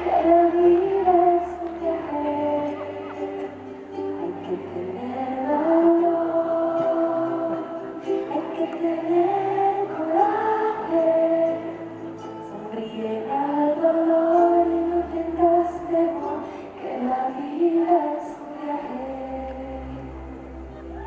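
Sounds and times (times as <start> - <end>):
woman singing: 0.0 - 20.3
soft musical accompaniment: 0.0 - 21.0.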